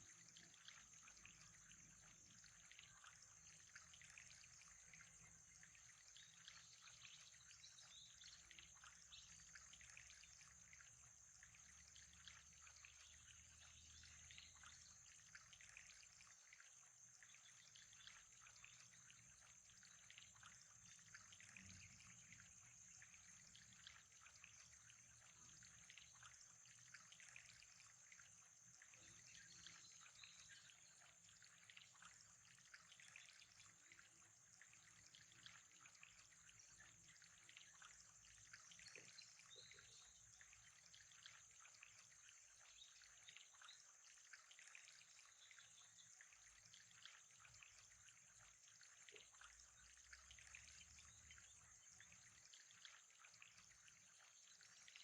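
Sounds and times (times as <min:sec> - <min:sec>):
faint trickling water: 0:00.0 - 0:55.0.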